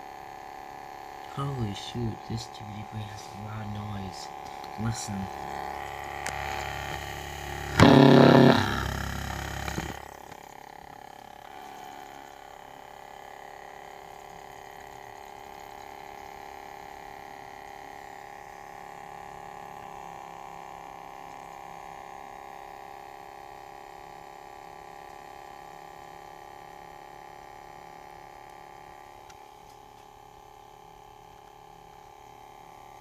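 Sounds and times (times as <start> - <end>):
dvd player loud noise: 0.0 - 33.0
dvd player whirring hum: 0.0 - 33.0.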